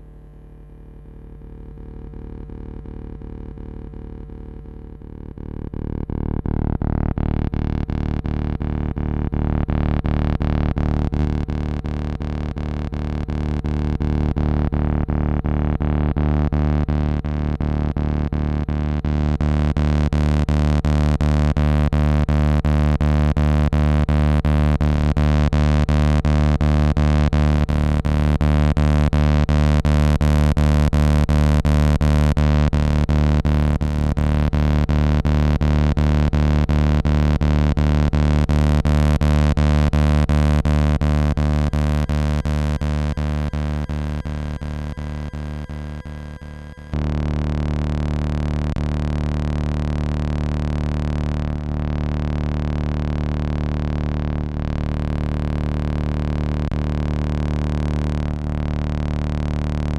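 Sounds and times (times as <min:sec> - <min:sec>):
pulsing electric hum: 0:00.0 - 0:59.9.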